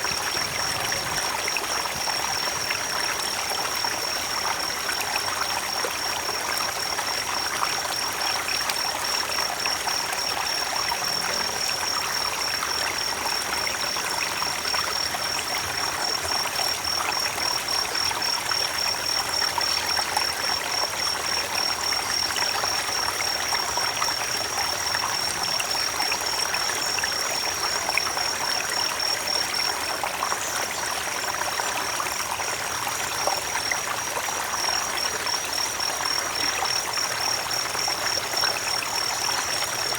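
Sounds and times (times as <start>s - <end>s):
creek water trickling over stones: 0.0s - 39.9s.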